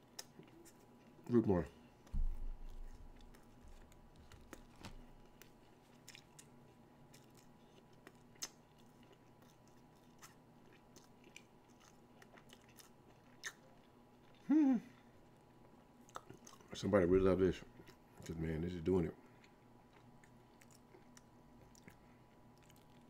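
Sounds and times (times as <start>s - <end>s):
faint chewing: 0.0s - 16.9s, 17.6s - 18.5s, 19.2s - 23.0s.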